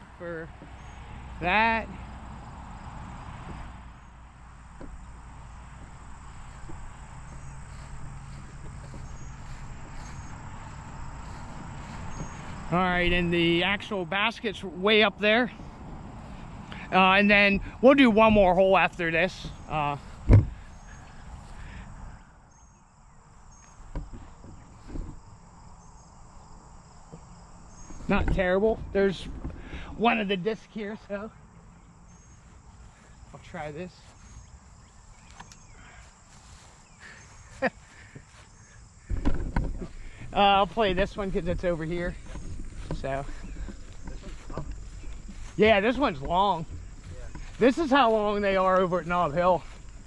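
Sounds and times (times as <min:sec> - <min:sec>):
insects trilling: 0:00.0 - 0:50.0
steady low rumble: 0:02.5 - 0:33.4, 0:34.1 - 0:50.0.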